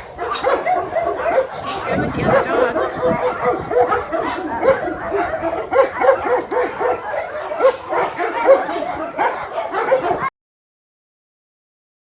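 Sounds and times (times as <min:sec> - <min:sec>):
dogs barking and yapping: 0:00.0 - 0:10.3.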